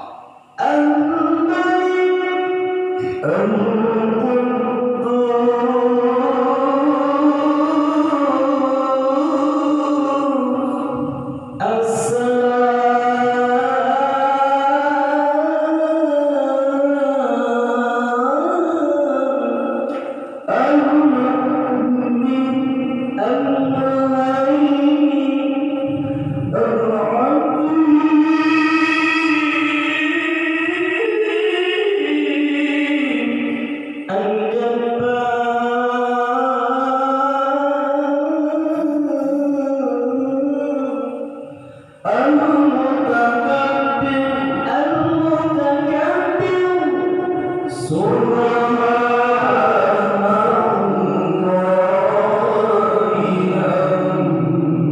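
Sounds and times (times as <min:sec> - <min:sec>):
person singing vocal practice: 0:00.0 - 0:54.9
solo voice chanting: 0:00.0 - 0:54.9.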